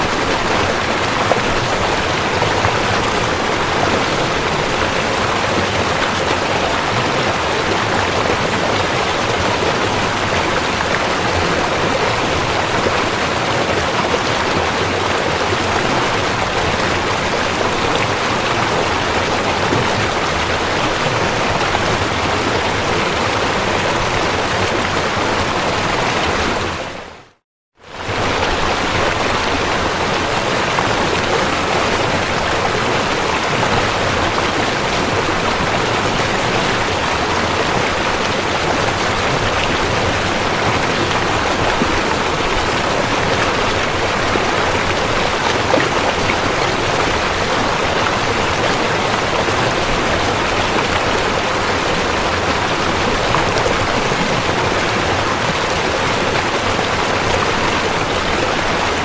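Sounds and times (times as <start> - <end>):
river water rushing: 0.0 - 27.2, 27.8 - 59.0.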